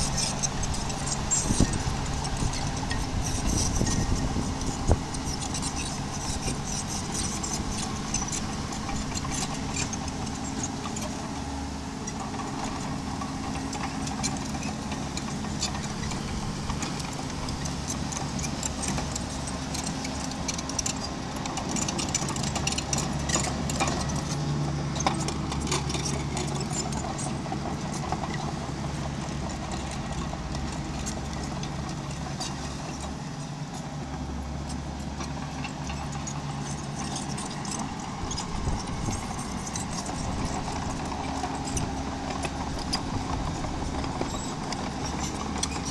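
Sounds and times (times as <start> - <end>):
diesel bulldozer engine running: 0.0 - 45.9.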